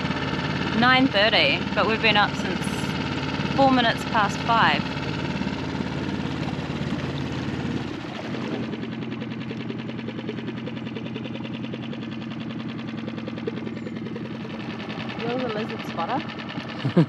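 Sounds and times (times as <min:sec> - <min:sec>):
outboard motor puttering: 0:00.0 - 0:17.0.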